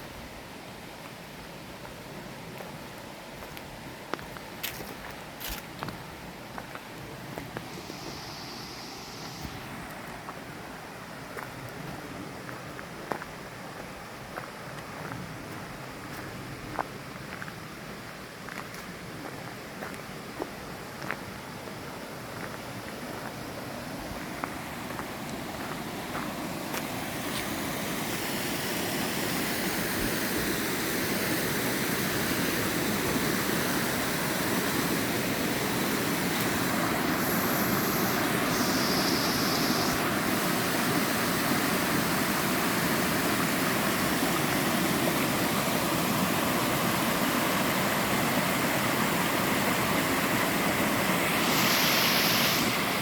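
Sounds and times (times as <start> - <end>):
creek water rushing: 0.0 - 53.0.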